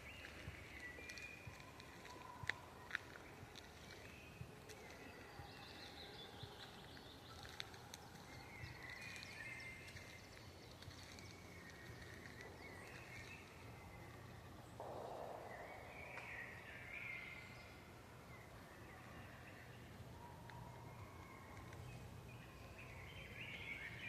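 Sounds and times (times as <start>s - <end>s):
distant songbirds calling: 0.0s - 24.0s.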